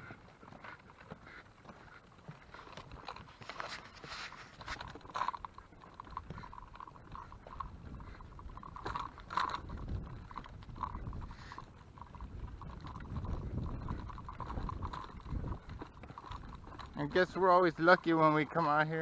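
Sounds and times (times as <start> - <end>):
stroller rolling on boardwalk: 0.0 - 19.0.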